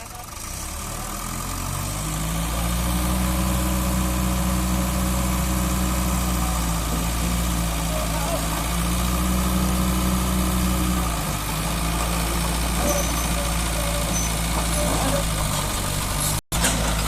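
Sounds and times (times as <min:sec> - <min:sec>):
bulldozer diesel engine revving: 0:00.0 - 0:17.0.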